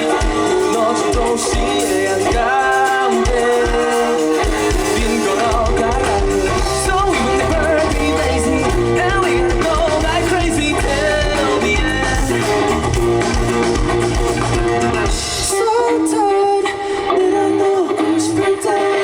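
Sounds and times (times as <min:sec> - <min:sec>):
person singing: 0:00.0 - 0:19.0
rock band playing: 0:00.0 - 0:19.0.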